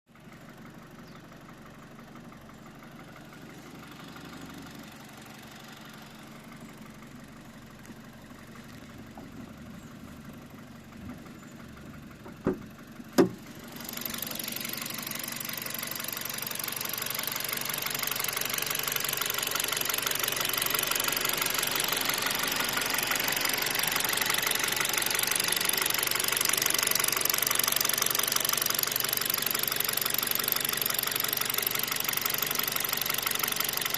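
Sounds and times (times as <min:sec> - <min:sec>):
car engine running: 0:00.1 - 0:33.9
engine knocking: 0:00.1 - 0:33.9.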